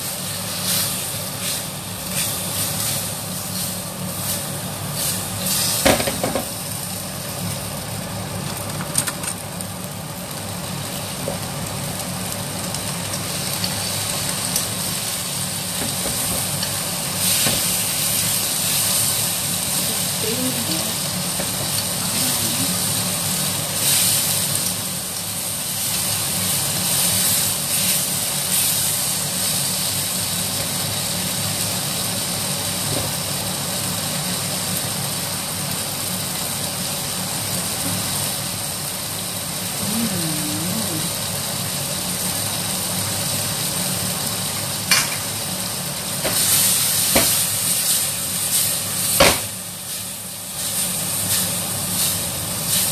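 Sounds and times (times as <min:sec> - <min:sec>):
food sizzling in a wok: 0:00.0 - 0:52.9
range hood fan hum: 0:00.0 - 0:52.9.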